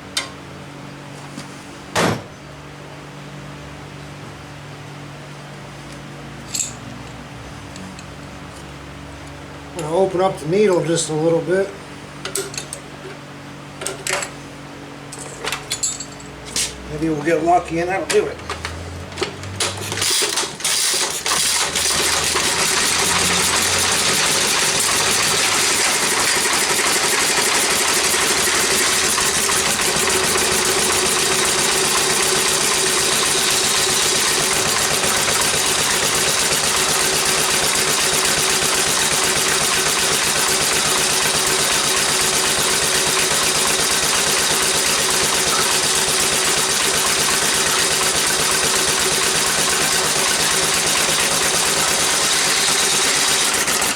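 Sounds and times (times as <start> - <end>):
single-cylinder engine running: 2.8 - 53.9.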